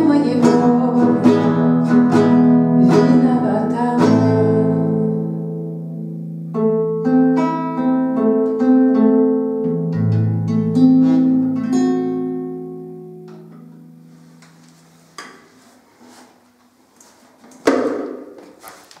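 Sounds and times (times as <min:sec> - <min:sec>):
nylon-string guitar fingerpicked: 0:00.0 - 0:15.5.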